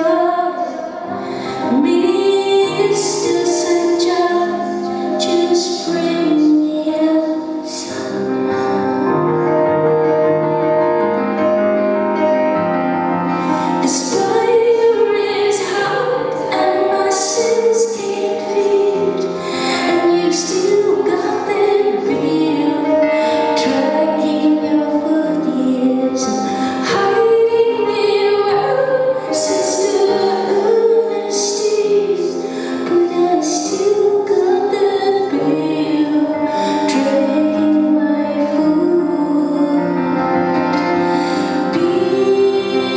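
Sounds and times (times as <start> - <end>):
woman singing: 0.0 - 8.8, 13.4 - 42.9
piano accompaniment: 0.0 - 42.9.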